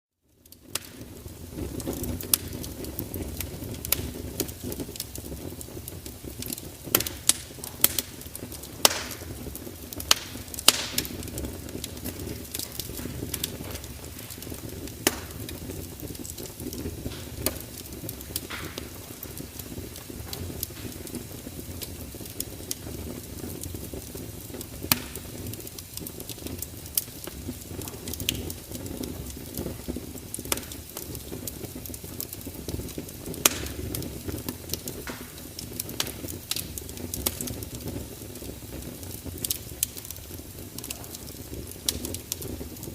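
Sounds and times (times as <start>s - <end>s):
fire crackling and popping: 0.2s - 42.9s
wood fire rumbling: 0.2s - 42.9s.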